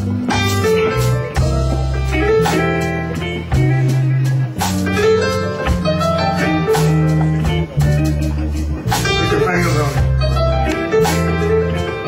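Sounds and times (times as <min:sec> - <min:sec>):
bass line: 0:00.0 - 0:12.0
drums: 0:00.0 - 0:12.0
keyboard: 0:00.0 - 0:12.0.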